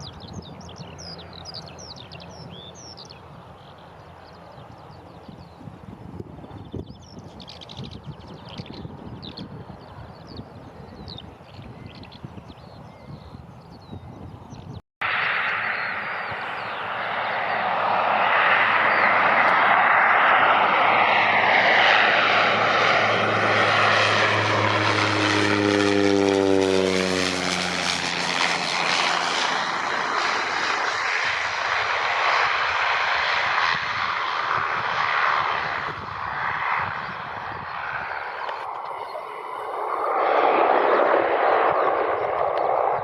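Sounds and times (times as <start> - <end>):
propeller airplane passing: 0.0 - 43.0.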